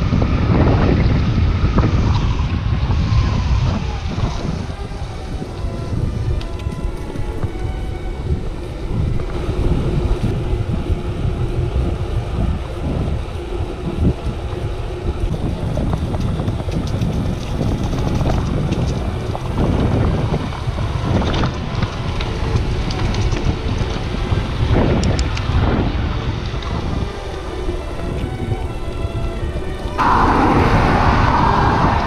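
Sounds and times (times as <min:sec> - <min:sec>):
road and tyre noise: 0:00.0 - 0:32.0
wind buffeting microphone: 0:00.0 - 0:32.0.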